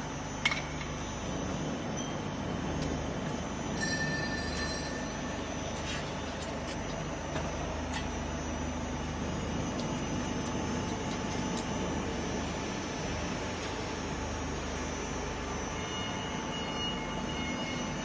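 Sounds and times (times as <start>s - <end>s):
machine motor and roller hum: 0.0s - 18.0s.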